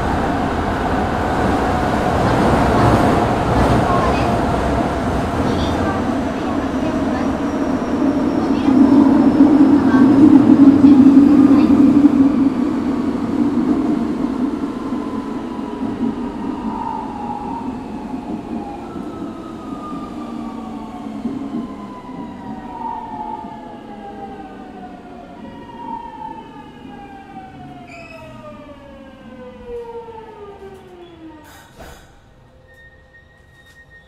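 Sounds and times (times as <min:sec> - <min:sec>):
wheel and track rumble: 0:00.0 - 0:29.9.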